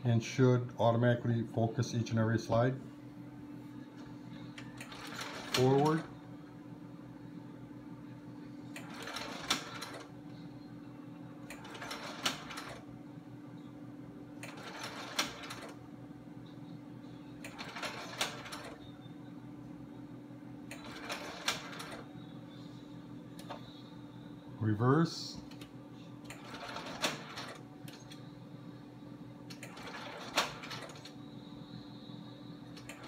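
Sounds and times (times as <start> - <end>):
projector motor and fan hum: 0.0 - 33.0.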